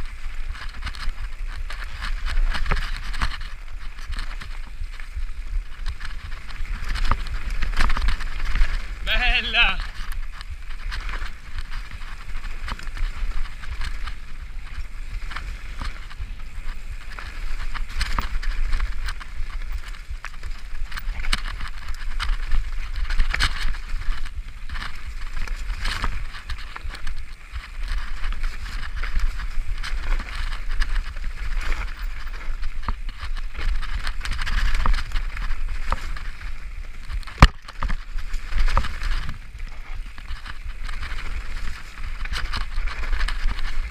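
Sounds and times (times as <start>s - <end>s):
bike rattling and clicking: 0.0s - 43.9s
tyres rolling over loose dirt: 0.0s - 43.9s.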